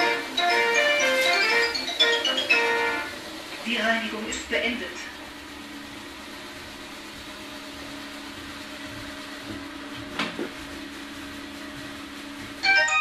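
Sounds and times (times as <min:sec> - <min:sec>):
robot vacuum humming: 0:00.0 - 0:13.0.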